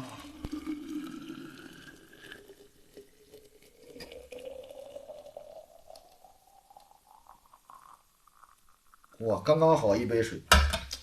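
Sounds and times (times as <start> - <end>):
water pouring into a cup: 0.0 - 9.8.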